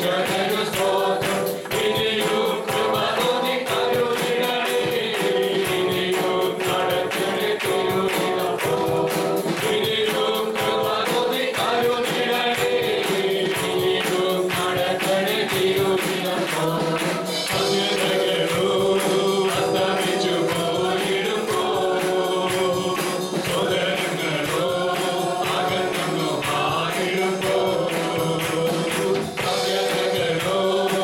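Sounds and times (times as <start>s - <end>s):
group singing a worship song: 0.0s - 31.0s
steady percussion beat: 0.0s - 31.0s.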